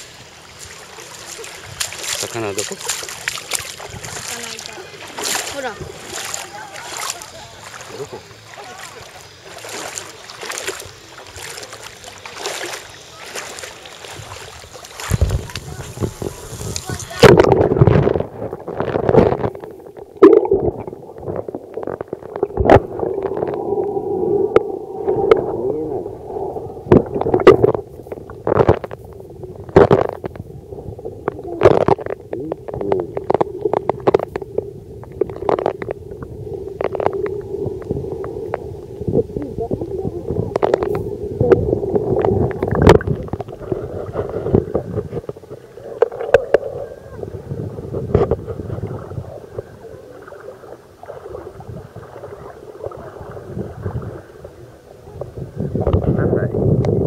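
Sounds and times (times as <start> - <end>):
underwater water rumble: 0.0 - 57.0.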